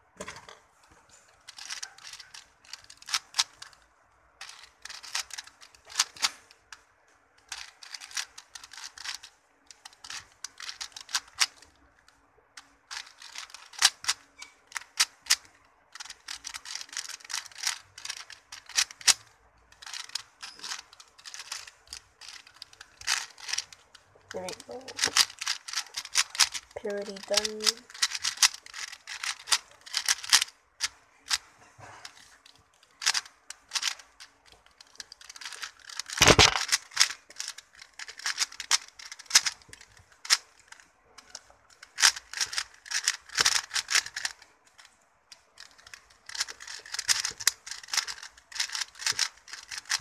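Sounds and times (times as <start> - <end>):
plastic puzzle cube clicking: 1.5 - 3.8, 4.4 - 6.7, 7.4 - 31.4, 32.0 - 50.0.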